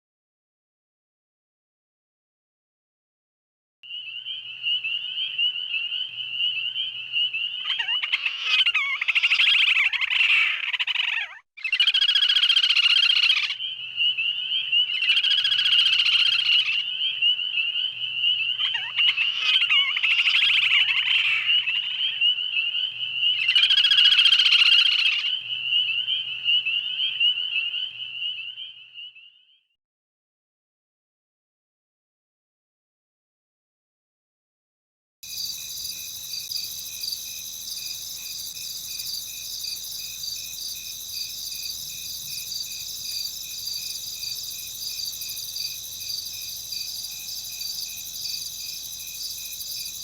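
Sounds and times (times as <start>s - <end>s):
frogs croaking: 3.9s - 29.6s, 35.3s - 50.0s.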